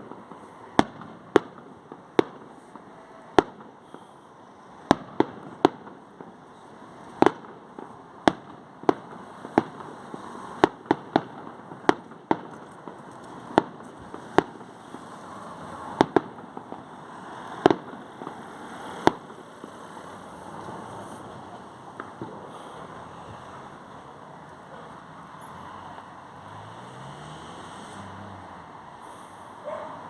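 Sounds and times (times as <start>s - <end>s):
fireworks bangs: 0.0s - 27.0s
steady background hiss: 0.0s - 30.0s.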